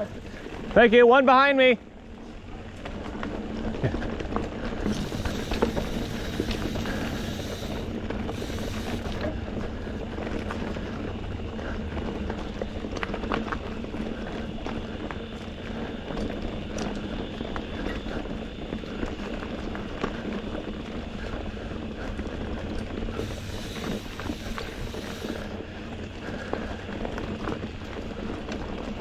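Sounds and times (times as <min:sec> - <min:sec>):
tyre and wind noise: 0:02.0 - 0:29.0.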